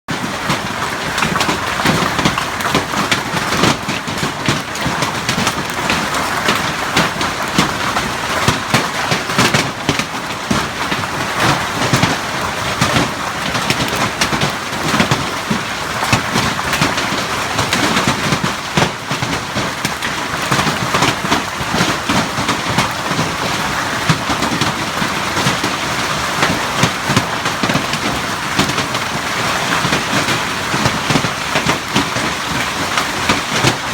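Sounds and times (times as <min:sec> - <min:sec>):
hail clattering on roofs: 0:00.1 - 0:33.9.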